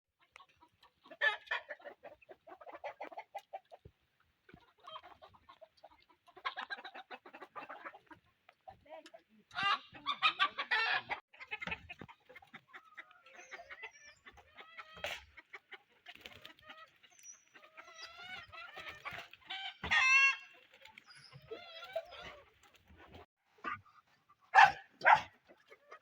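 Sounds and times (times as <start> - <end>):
chickens clucking: 0.2 - 26.0.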